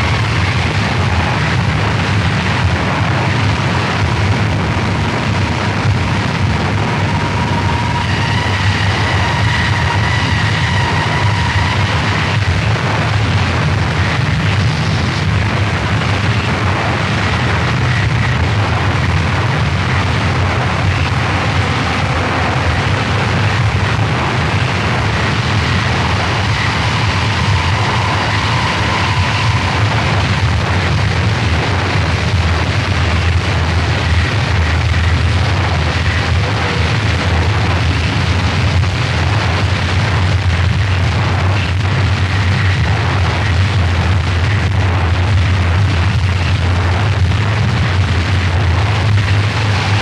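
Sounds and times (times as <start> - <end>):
faint high whines: 0.0 - 50.0
harsh distorted noise music: 0.0 - 50.0.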